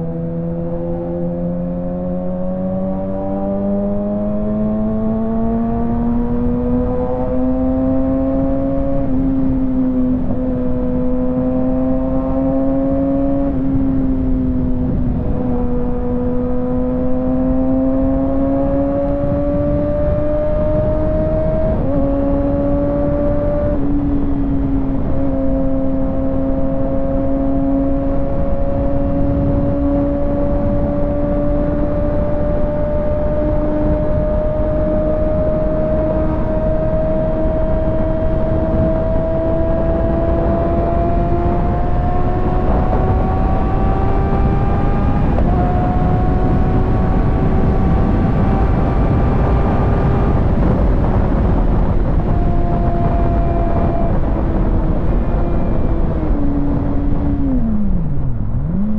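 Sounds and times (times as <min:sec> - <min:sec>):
motorcycle engine pulling under throttle: 0:00.0 - 0:58.9
wind rush: 0:00.0 - 0:58.9.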